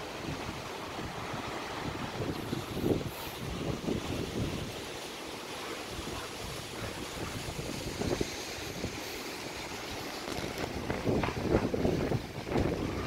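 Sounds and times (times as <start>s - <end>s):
surf rushing: 0.0s - 13.0s
wind buffeting microphone: 0.1s - 4.9s, 5.9s - 13.0s.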